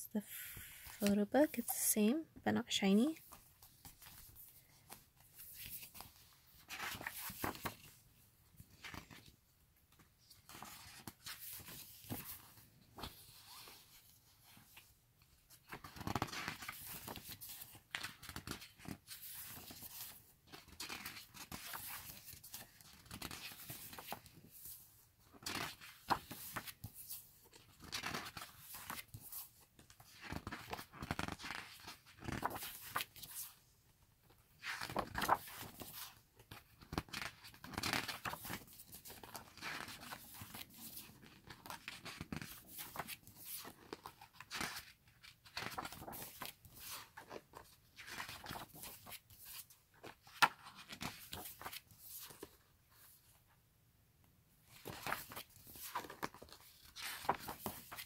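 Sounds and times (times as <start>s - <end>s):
book pages turning: 3.2s - 8.0s, 8.7s - 9.3s, 10.3s - 14.9s, 15.5s - 33.6s, 34.5s - 53.1s, 54.7s - 58.0s.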